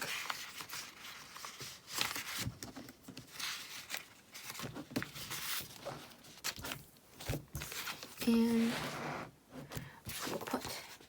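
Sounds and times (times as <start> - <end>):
paper pages rustling and flipping: 0.0 - 9.0, 9.6 - 11.0.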